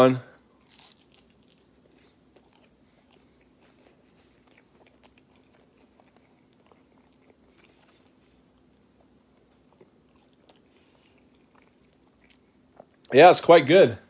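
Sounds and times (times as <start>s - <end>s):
low steady hum: 0.0s - 14.0s
crunchy chewing: 0.3s - 13.1s.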